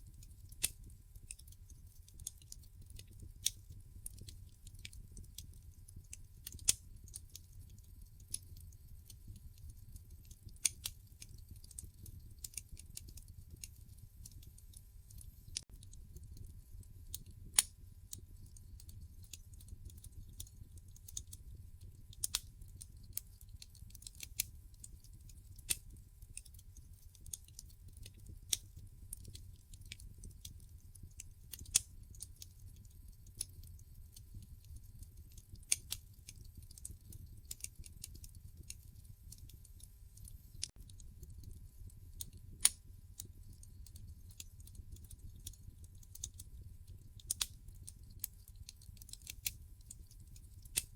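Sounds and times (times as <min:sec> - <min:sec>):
log fire crackling: 0:00.0 - 0:50.9
low steady fire rumble: 0:00.0 - 0:50.9.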